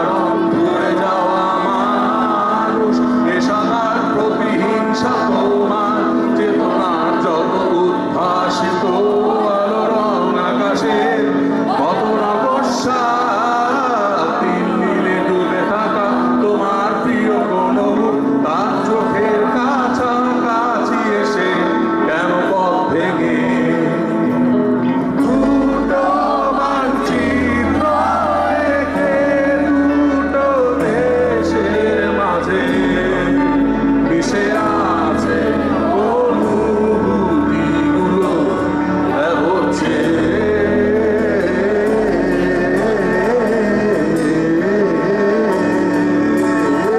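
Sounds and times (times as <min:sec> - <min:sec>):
drums: 0:00.0 - 0:46.9
electric guitar chords: 0:00.0 - 0:46.9
man singing: 0:00.0 - 0:46.9
metal band playing: 0:00.0 - 0:46.9.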